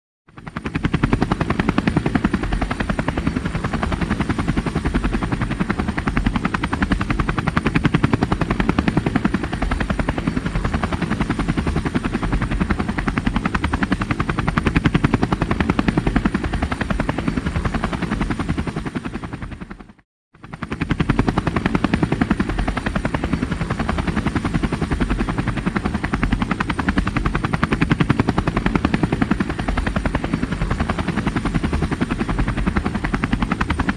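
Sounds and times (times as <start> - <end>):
helicopter rotor blades chopping: 0.3 - 33.9.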